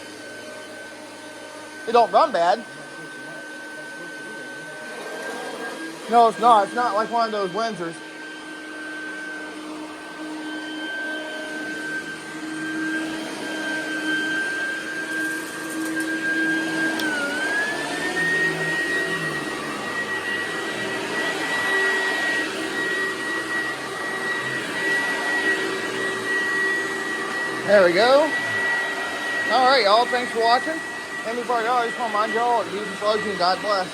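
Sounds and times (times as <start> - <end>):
vacuum cleaner whine: 0.0 - 33.9.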